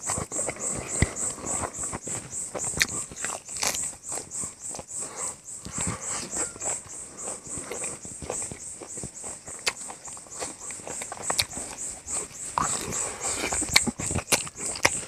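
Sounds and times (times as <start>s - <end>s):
man chewing and lip smacking: 0.0s - 15.0s.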